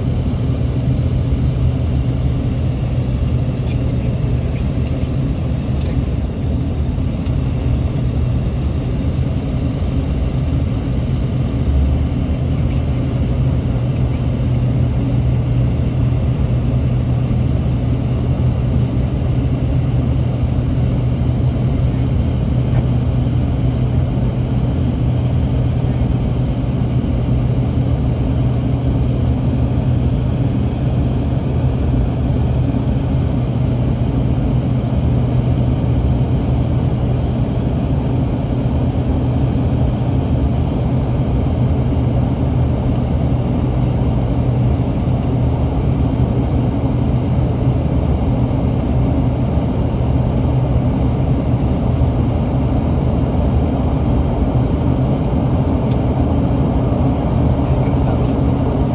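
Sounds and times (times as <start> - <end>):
jet engines droning in cabin: 0.0 - 58.9
strong low hum: 0.0 - 58.9.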